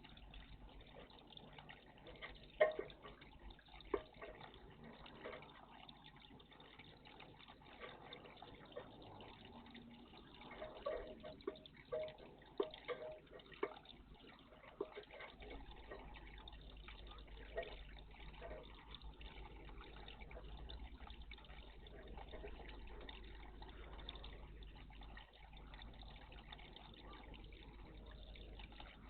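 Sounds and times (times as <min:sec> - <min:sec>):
water splashing in bird bath: 0:00.0 - 0:29.0.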